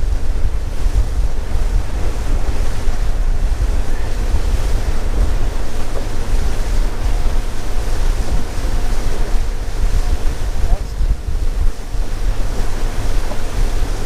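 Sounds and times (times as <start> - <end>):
hiss of wind and water: 0.0 - 14.0
wind buffeting microphone: 0.0 - 14.0.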